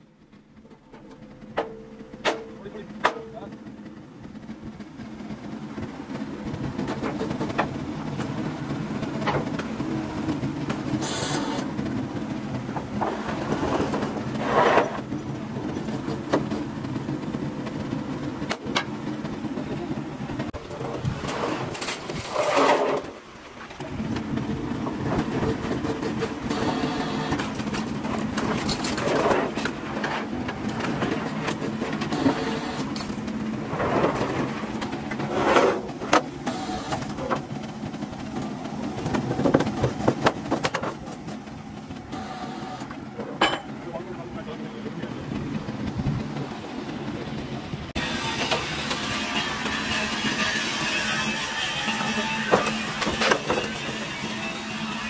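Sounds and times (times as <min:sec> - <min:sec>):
motor running steadily: 0:00.0 - 0:55.0.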